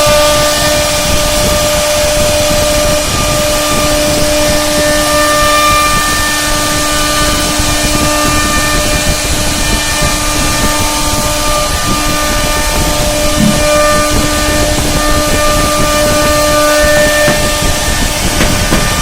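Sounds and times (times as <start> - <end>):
router spindle motor running: 0.0 - 19.0.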